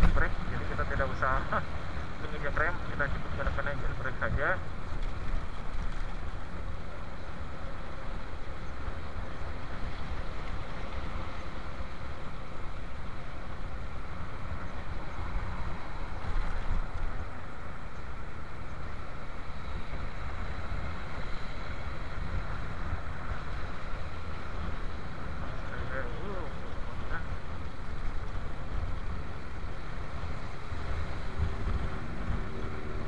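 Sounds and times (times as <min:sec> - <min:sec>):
road noise: 0:00.0 - 0:33.0
wind rush: 0:00.0 - 0:33.0.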